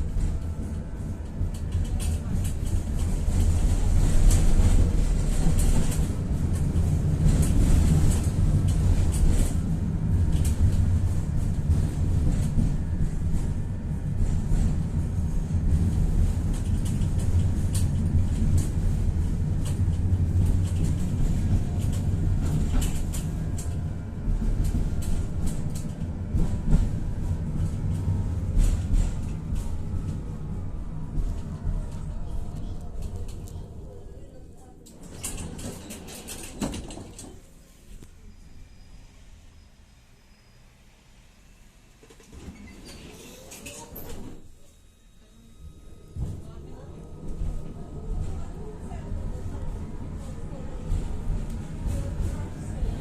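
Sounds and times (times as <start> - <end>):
tram wheels rumbling on rails: 0.0 - 44.7, 45.3 - 53.0.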